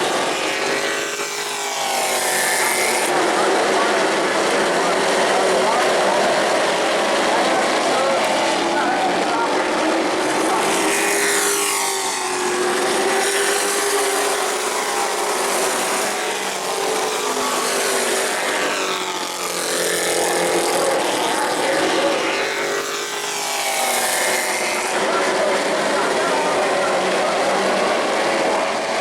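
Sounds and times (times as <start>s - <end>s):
race truck engines passing: 0.0s - 29.0s.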